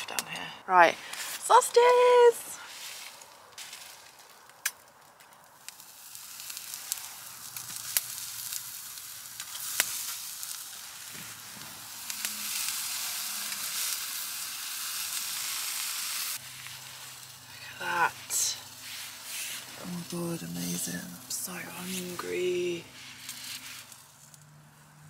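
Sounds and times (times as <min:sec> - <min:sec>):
sausages sizzling on a grill: 0:00.4 - 0:25.0.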